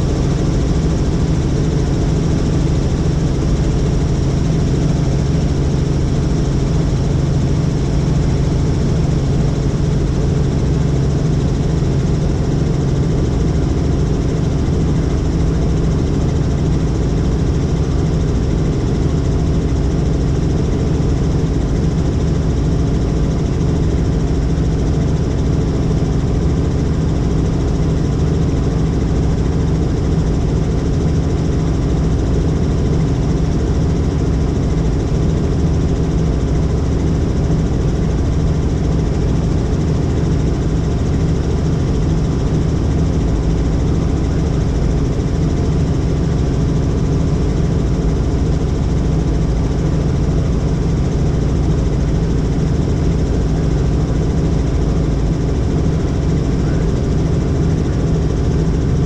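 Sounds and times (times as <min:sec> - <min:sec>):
helicopter engine and rotor noise: 0:00.0 - 0:59.0.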